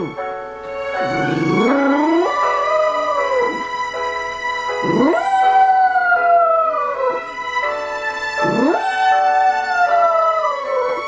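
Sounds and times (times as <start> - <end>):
television theme music: 0.0 - 11.0
dog howling: 1.0 - 4.0, 4.7 - 11.0.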